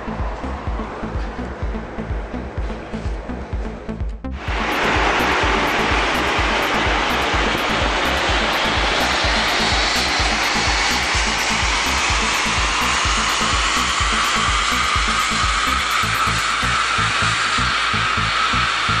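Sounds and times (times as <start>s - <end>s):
background music with a beat: 0.0s - 19.0s
engine roaring on a dyno: 0.0s - 19.0s.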